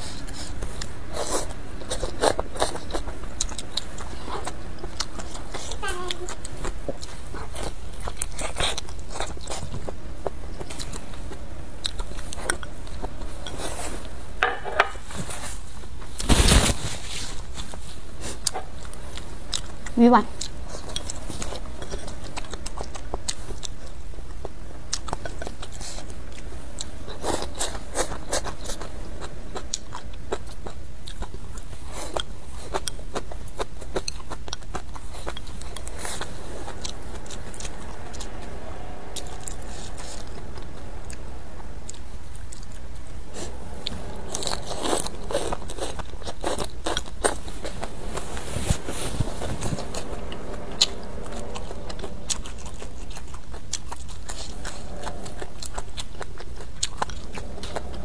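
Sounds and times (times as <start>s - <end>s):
chewing food with wet mouth smacks: 0.0s - 13.8s, 18.2s - 42.8s, 48.7s - 58.0s.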